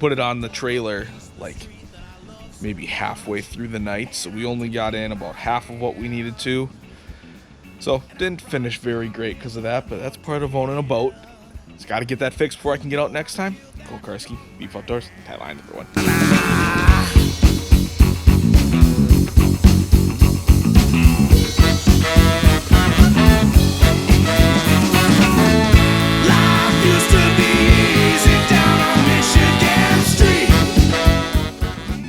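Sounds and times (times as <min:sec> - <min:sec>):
upbeat guitar music with beat: 0:03.6 - 0:14.6, 0:16.0 - 0:32.0.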